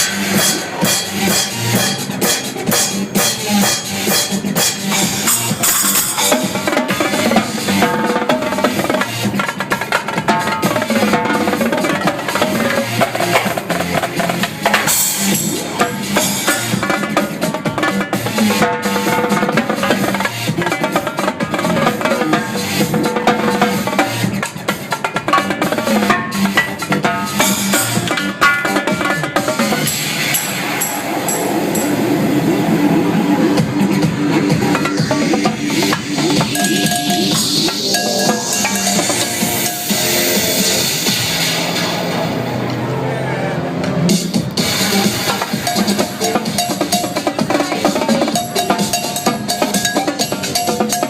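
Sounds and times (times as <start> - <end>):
drum kit playing: 0.0 - 42.7, 43.8 - 51.0
cymbals crashing: 0.0 - 43.0, 44.1 - 51.0
electronic dance music: 0.0 - 51.0.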